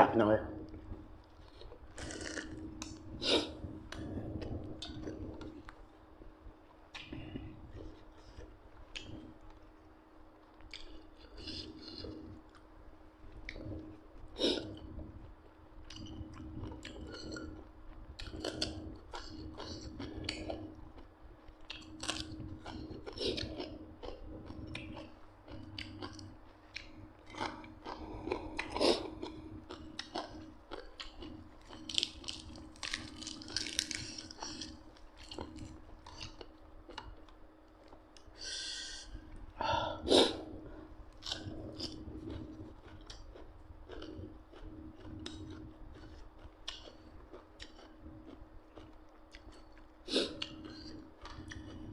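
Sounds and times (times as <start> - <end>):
person chewing food: 0.7 - 51.9.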